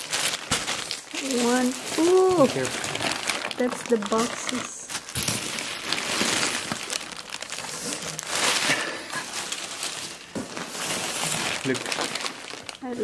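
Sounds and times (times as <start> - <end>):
plastic and paper crinkling: 0.0 - 13.0.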